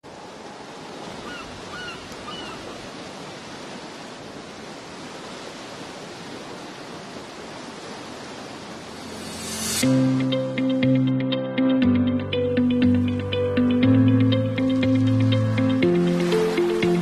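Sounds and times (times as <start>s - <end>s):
sea surf rushing: 0.1s - 17.0s.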